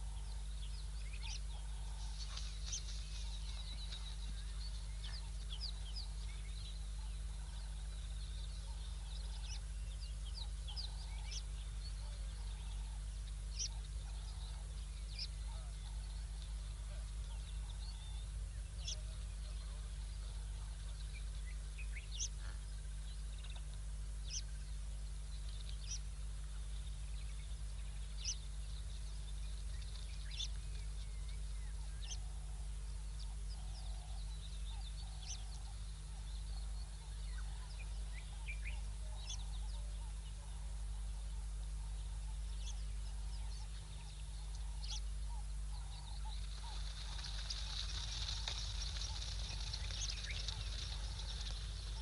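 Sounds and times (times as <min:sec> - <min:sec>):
birds chirping: 0:00.0 - 0:52.0
steady low hum: 0:00.0 - 0:52.0.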